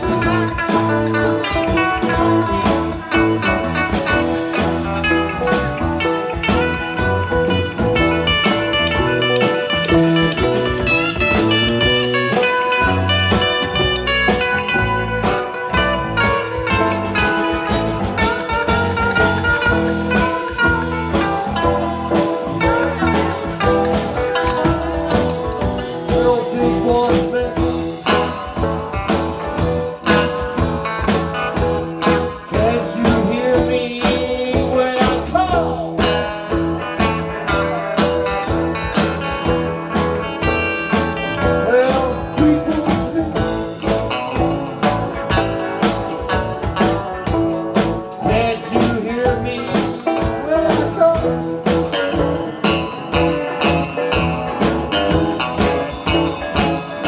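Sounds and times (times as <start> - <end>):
blues-rock band playing: 0.0 - 57.0
electric guitar lead: 0.0 - 57.0.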